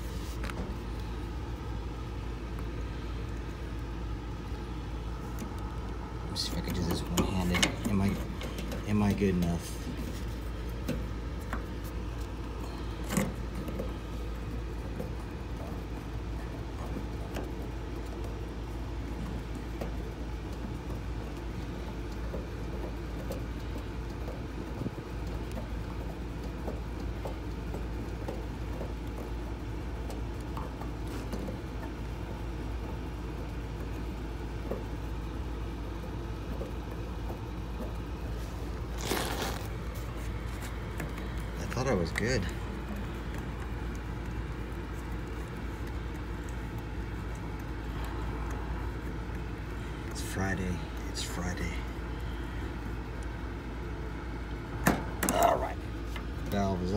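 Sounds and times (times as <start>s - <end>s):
steady low rumble: 0.0s - 56.9s.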